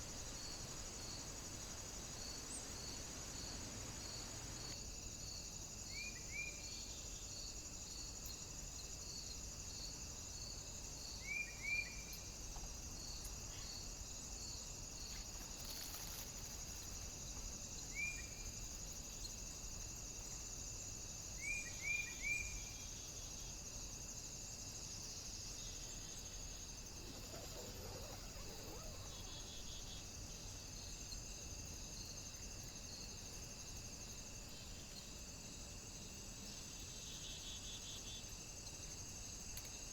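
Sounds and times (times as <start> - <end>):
crickets trilling: 0.0 - 39.9
faint hiss: 0.0 - 39.9.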